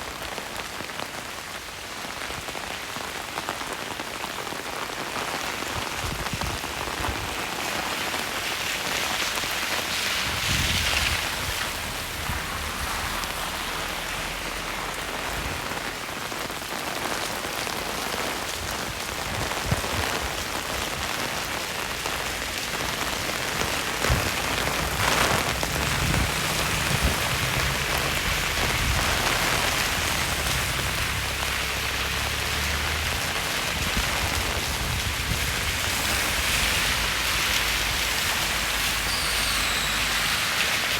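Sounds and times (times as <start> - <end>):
rain on a wet street: 0.0 - 40.9.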